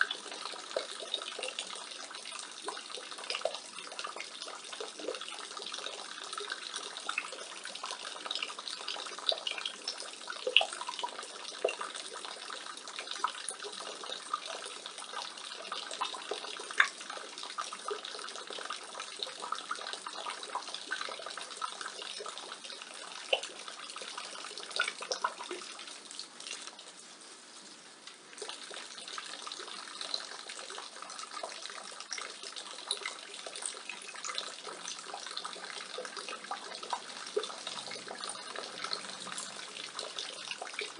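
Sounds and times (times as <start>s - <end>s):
rainwater splashing from gutter: 0.0s - 40.9s.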